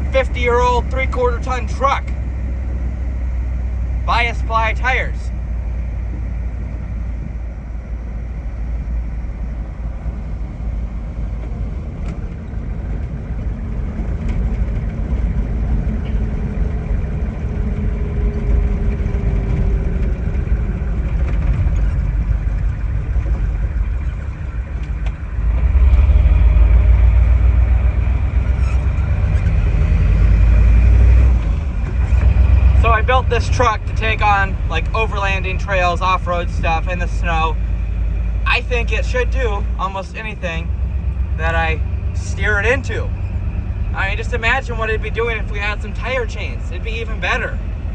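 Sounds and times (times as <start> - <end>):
diesel truck engine under load: 0.0 - 47.9.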